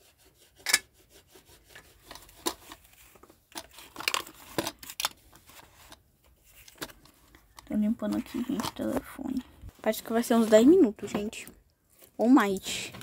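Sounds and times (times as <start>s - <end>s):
plastic toys rubbing and scraping: 0.0s - 13.0s.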